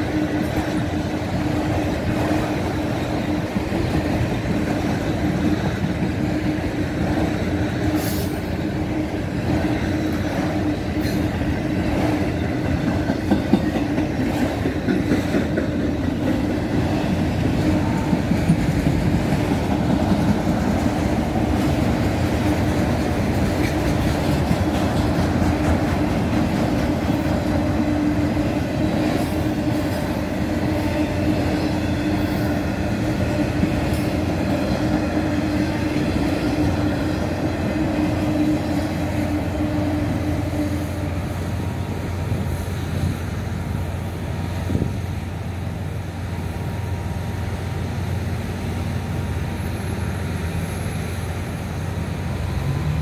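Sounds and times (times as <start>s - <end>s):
wheels clacking on rail joints: 0.0s - 43.3s
freight train rumbling past: 0.0s - 53.0s.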